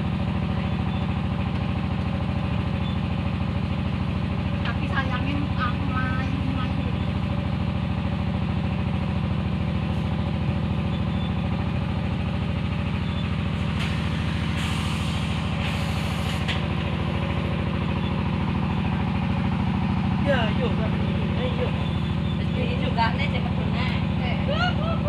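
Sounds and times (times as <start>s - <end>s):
machine engine droning: 0.0s - 25.0s.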